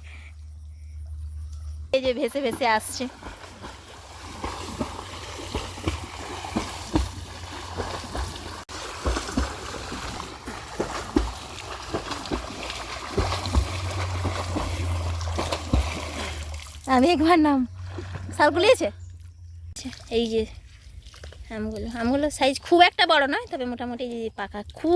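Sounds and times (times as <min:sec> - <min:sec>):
water splashing from swimming: 0:02.0 - 0:18.8, 0:19.8 - 0:23.7.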